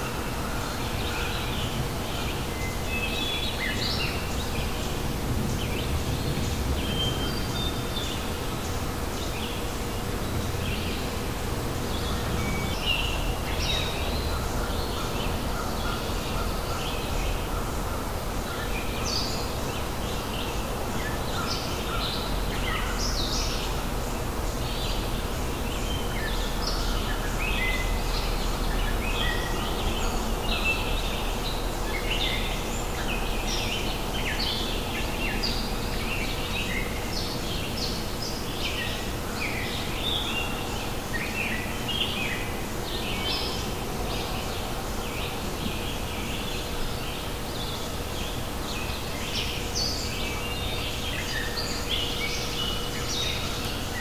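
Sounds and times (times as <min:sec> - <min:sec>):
steady low background noise: 0:00.0 - 0:54.0.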